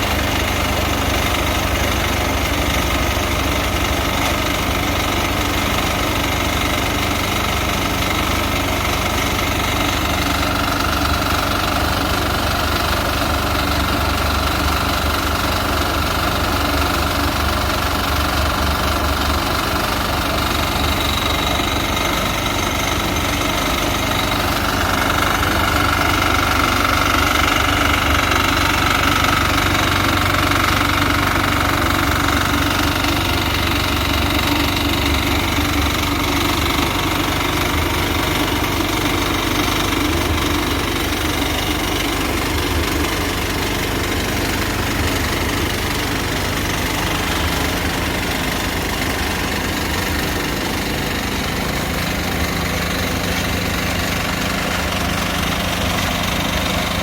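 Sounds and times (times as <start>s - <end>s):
machinery engine pulsing: 0.0s - 57.0s.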